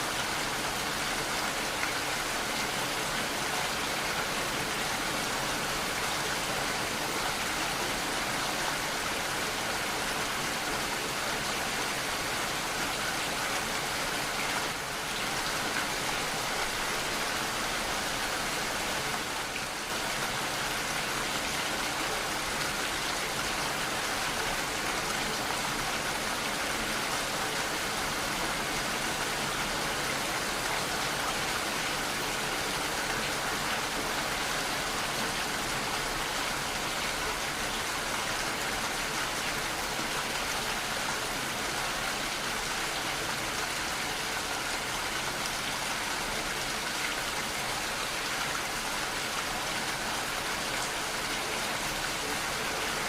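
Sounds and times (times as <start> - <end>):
steady rainfall: 0.0 - 53.0.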